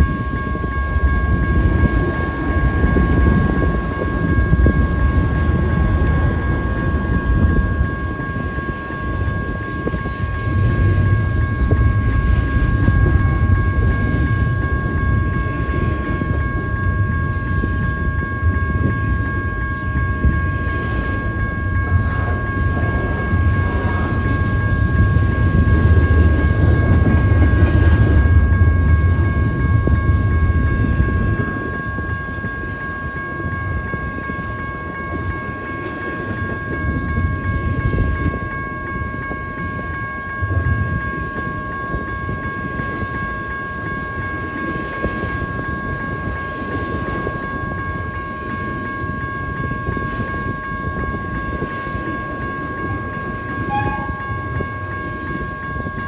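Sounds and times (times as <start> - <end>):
steady high-pitched tone: 0.0 - 56.0
train rumbling past: 0.0 - 56.0.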